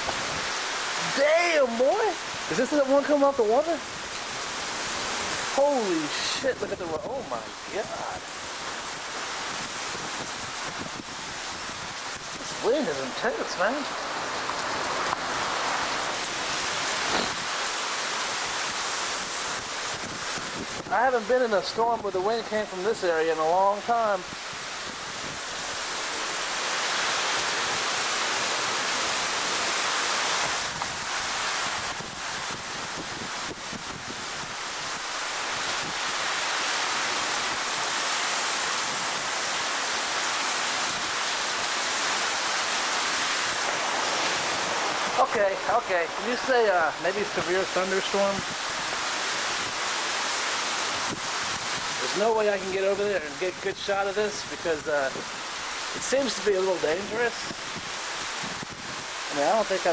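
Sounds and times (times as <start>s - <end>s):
heavy rain pouring: 0.0s - 59.9s
strong wind: 0.0s - 59.9s.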